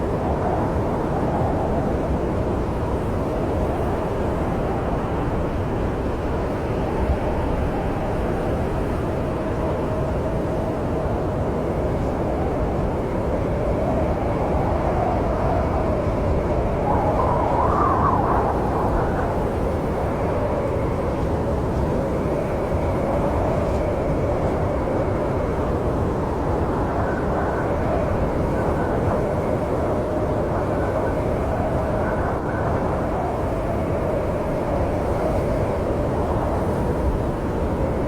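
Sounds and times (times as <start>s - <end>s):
snowstorm wind blowing: 0.0s - 38.0s.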